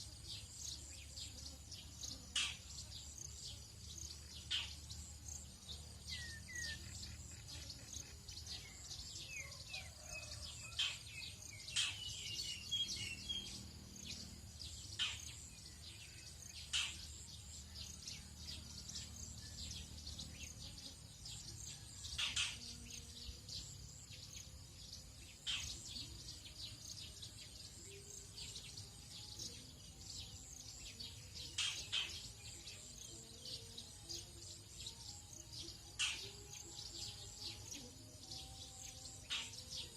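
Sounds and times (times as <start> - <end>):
birds chirping and calling: 0.4 - 39.9.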